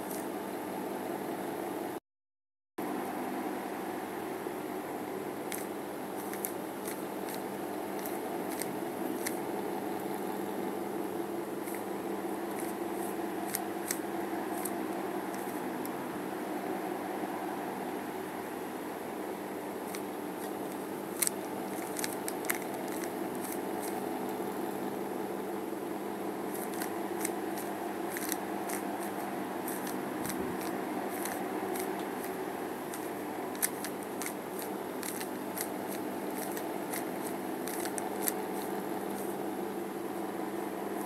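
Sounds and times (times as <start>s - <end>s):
steady background hum: 0.0s - 2.0s, 2.8s - 41.0s.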